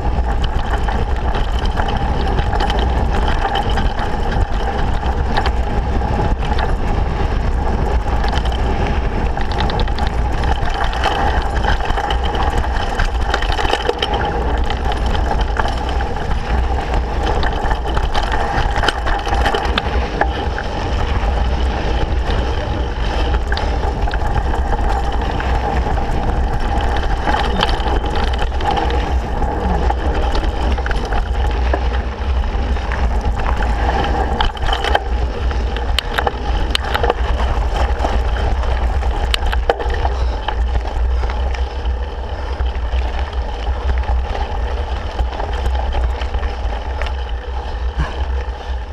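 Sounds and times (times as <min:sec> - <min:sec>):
bike knocks and rattles: 0:00.0 - 0:48.9
wind and tyres rumbling on dirt: 0:00.0 - 0:48.9.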